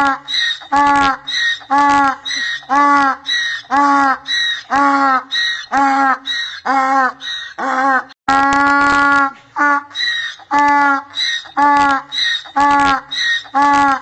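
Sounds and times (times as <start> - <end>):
donkey braying: 0.0 - 14.0.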